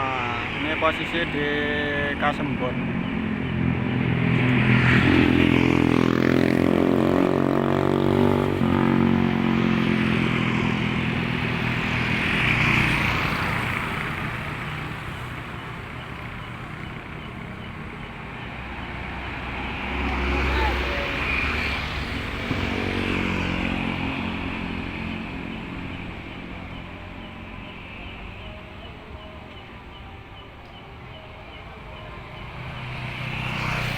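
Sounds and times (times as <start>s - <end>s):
road traffic passing: 0.0s - 33.9s.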